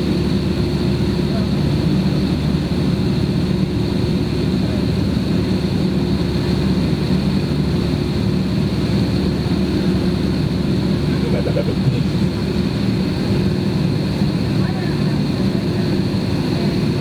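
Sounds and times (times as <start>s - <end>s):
jet engine hum: 0.0s - 17.0s.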